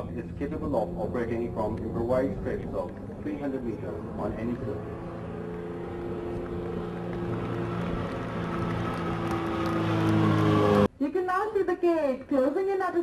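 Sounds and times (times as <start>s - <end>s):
propeller aircraft droning overhead: 0.0s - 10.9s.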